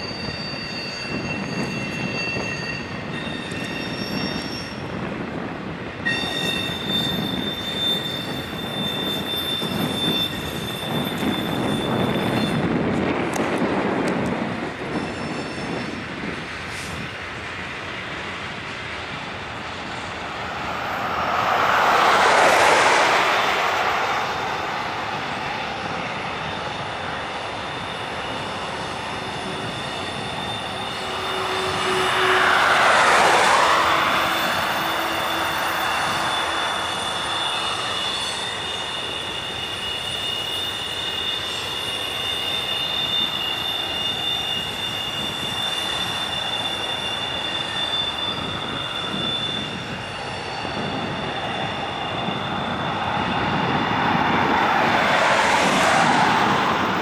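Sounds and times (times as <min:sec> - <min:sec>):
high wheel squeal: 0:00.0 - 0:05.0, 0:06.1 - 0:12.8, 0:14.8 - 0:17.1, 0:19.0 - 0:57.0
train wheels rumbling on rail: 0:00.0 - 0:57.0.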